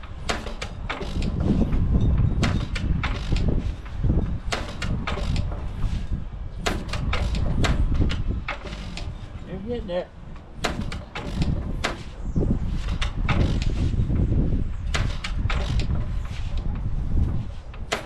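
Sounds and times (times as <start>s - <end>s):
low mechanical rumble: 0.0s - 18.0s
engine exhaust bangs: 0.3s - 18.0s.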